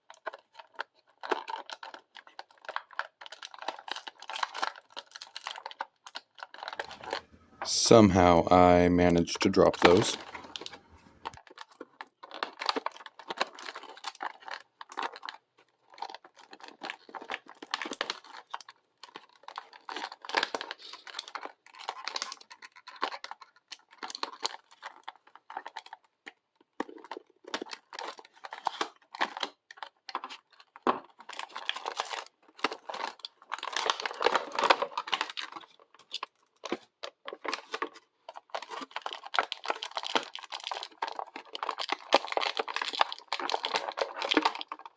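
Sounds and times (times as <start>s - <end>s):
packaging crinkling and tearing: 0.0s - 8.3s, 9.0s - 44.9s.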